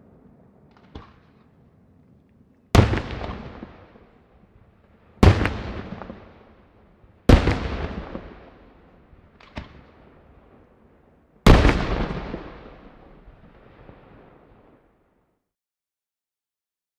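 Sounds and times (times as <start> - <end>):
firework booms with rolling echo: 0.0 - 2.0, 2.7 - 15.2.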